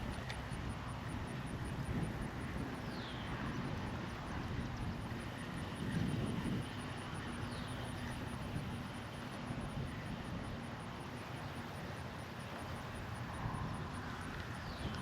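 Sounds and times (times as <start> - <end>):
wind noise on microphone: 0.0 - 10.8, 12.8 - 15.0.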